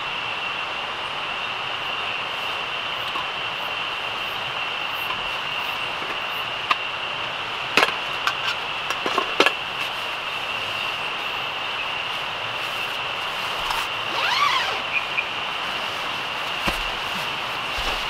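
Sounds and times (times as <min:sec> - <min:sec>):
night insects chorus: 0:00.0 - 0:18.0.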